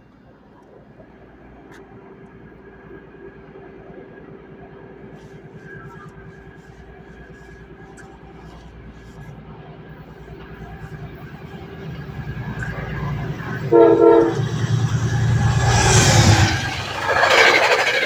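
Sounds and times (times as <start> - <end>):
train approaching rumble: 0.0 - 18.0.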